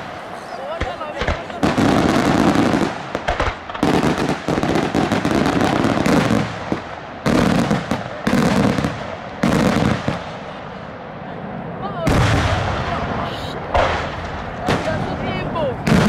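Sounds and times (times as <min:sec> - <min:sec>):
fireworks bursting: 0:00.0 - 0:16.0
fireworks crackling: 0:00.0 - 0:16.0.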